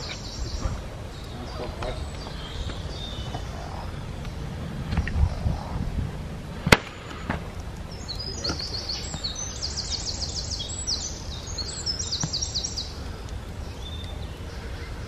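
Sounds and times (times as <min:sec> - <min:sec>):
songbird singing: 0:00.0 - 0:05.9, 0:06.8 - 0:15.0
low outdoor rumble: 0:00.0 - 0:15.0.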